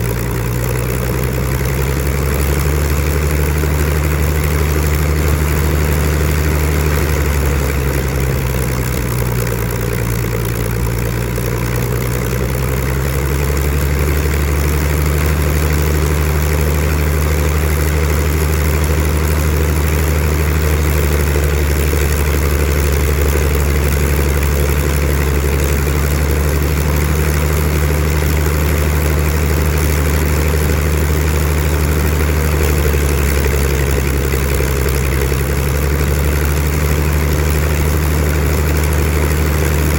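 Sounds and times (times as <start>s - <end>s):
aircraft piston engine running: 0.0s - 39.9s.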